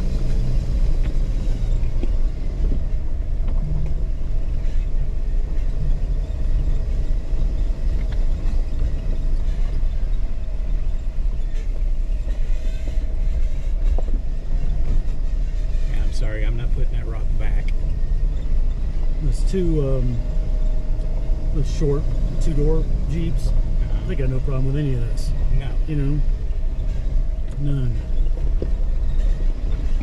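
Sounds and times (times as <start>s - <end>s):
off-road vehicle engine rumble: 0.0s - 30.0s.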